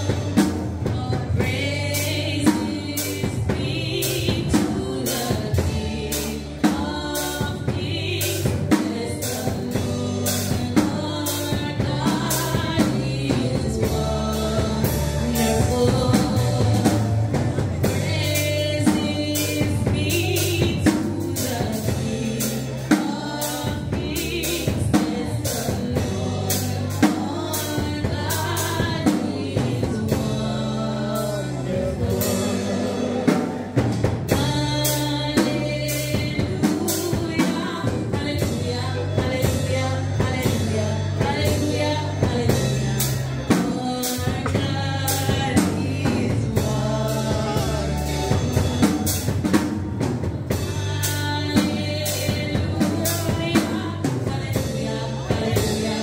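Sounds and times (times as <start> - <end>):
drum kit steady beat: 0.0 - 56.0
low bass notes: 0.0 - 56.0
woman singing into a microphone: 0.0 - 56.0.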